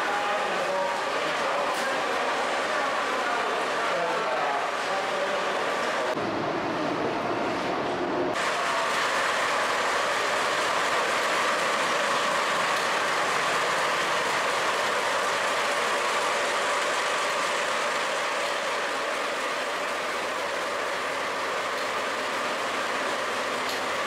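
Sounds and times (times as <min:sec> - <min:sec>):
trolley train running hum: 0:00.0 - 0:24.0.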